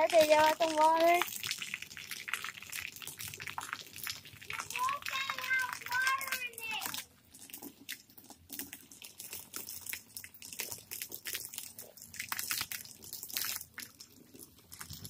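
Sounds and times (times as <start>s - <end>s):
hose water splashing on wooden deck: 0.0s - 15.0s.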